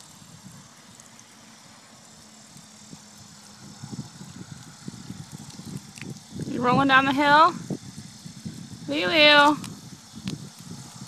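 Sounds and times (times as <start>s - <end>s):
outdoor background hiss: 0.0s - 11.0s
rustles: 0.0s - 11.0s.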